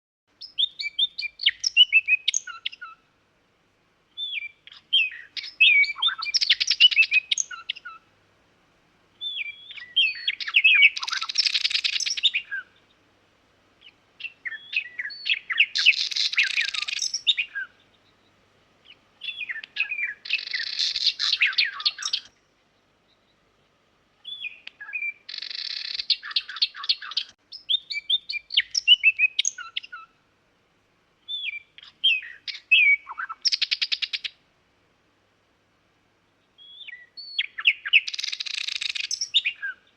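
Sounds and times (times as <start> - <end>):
nightingale singing: 0.3 - 3.1, 4.1 - 8.2, 9.0 - 30.2, 31.2 - 34.4, 36.2 - 39.9.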